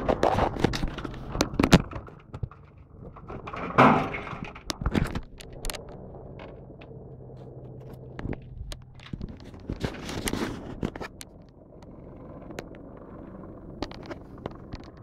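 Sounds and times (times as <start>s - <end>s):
helicopter flying overhead: 0.0s - 3.7s, 4.3s - 15.0s.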